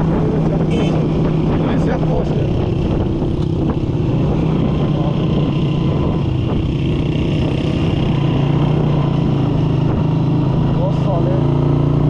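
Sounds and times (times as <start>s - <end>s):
small motorcycle engine cruising: 0.0s - 12.0s
wind and road rush: 0.0s - 12.0s.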